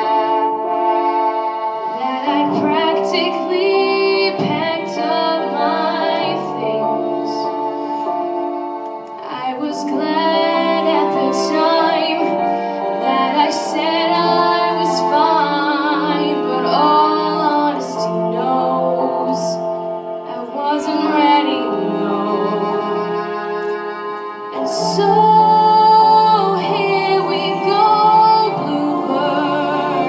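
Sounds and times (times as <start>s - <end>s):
sustained instrumental accompaniment: 0.0s - 30.0s
woman singing with vibrato: 1.9s - 7.5s, 9.2s - 23.3s, 24.5s - 30.0s.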